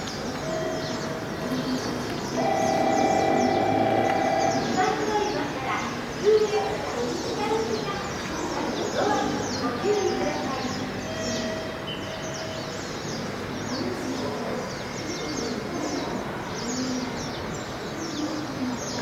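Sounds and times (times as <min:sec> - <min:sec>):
flock of small birds chirping: 0:00.0 - 0:19.0
steady background noise: 0:00.0 - 0:19.0.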